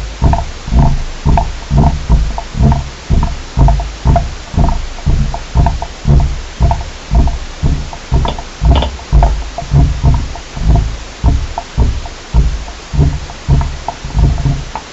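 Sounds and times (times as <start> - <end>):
low underground thumping: 0.0 - 14.9.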